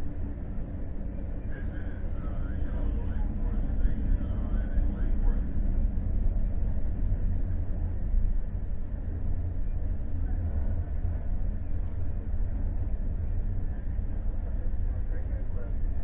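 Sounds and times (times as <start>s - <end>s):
vehicle rumble from inside cabin: 0.0s - 16.0s
faint voices: 1.2s - 16.0s.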